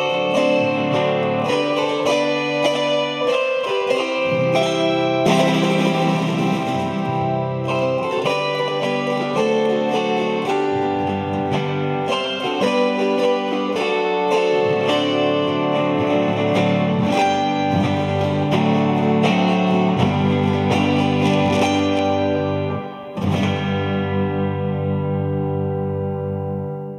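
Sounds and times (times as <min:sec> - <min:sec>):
chromaharps playing a hymn: 0:00.0 - 0:25.6.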